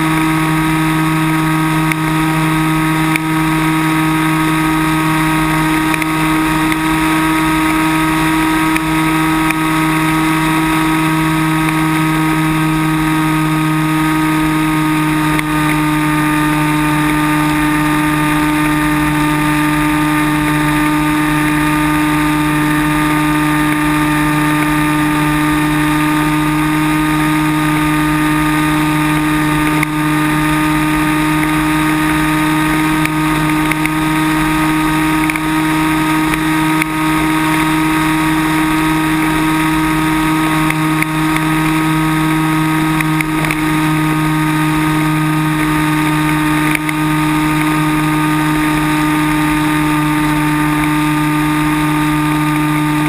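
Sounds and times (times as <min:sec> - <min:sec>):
electric motor and propeller whine: 0:00.0 - 0:53.0.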